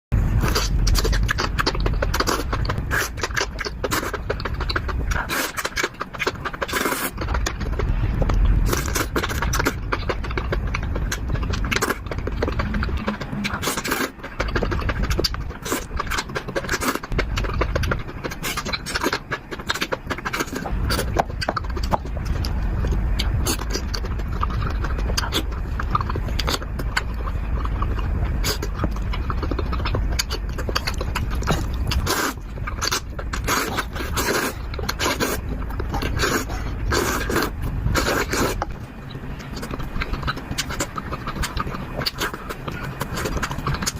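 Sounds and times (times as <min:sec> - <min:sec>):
chewing and crunching: 0:00.2 - 0:43.9
low rumble: 0:00.2 - 0:43.9.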